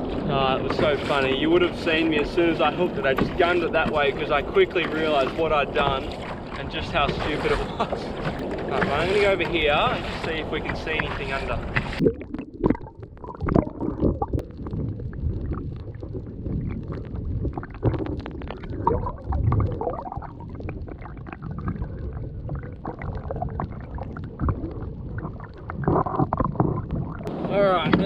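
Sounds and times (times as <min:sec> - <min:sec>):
underwater gurgling water: 0:00.0 - 0:28.0.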